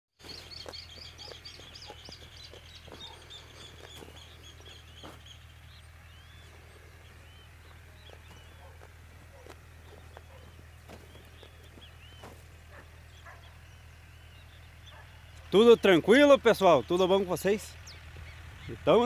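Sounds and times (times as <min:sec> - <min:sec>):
birds chirping and whistling: 0:00.2 - 0:19.0
steady low hum: 0:00.2 - 0:19.0.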